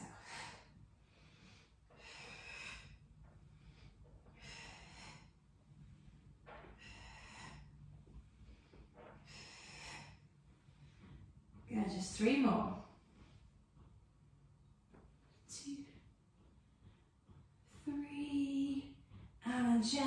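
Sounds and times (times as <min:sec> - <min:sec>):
woman breathing slowly: 0:00.0 - 0:20.0.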